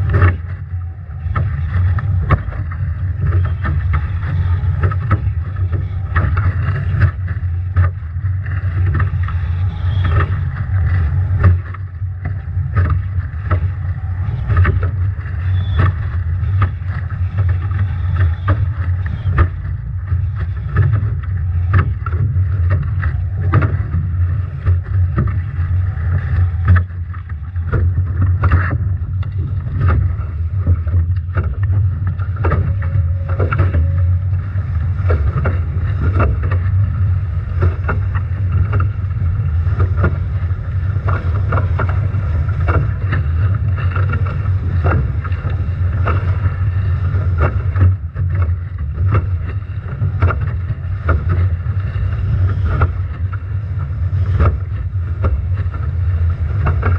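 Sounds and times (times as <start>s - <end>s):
water splashing against hull: 0.0s - 56.9s
wind buffeting microphone: 0.0s - 56.9s.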